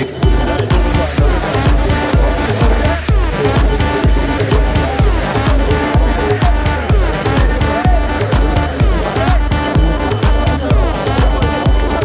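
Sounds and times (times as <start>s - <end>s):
electronic dance-pop music: 0.0s - 12.0s
steady kick drum beat: 0.0s - 12.0s
synth chords: 0.0s - 12.0s.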